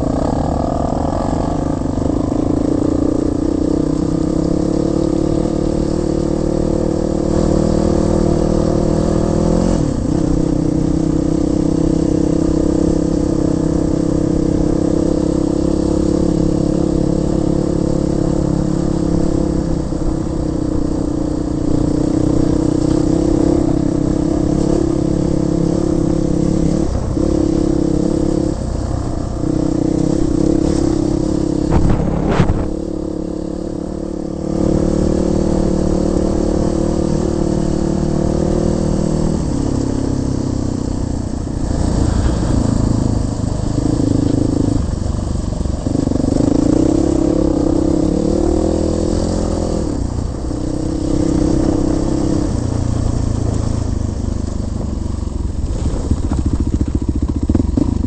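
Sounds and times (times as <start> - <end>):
motorcycle engine under load: 9.6 - 58.0.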